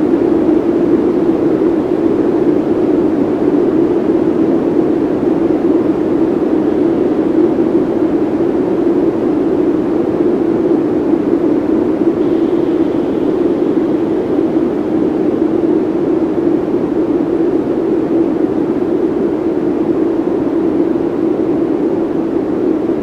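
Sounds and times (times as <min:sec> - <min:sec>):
processed droning noise: 0:00.0 - 0:23.0.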